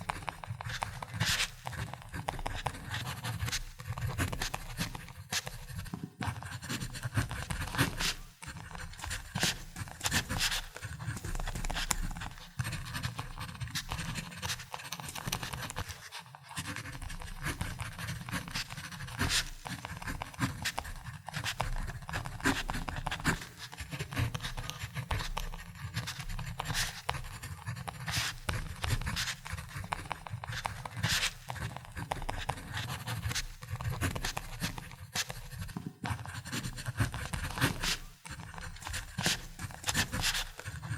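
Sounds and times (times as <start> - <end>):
pen scratching on paper: 0.0 - 40.9.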